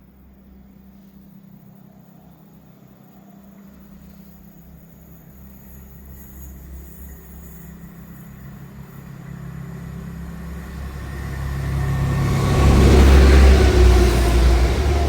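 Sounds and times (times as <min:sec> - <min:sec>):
diesel train approaching: 0:00.0 - 0:15.0.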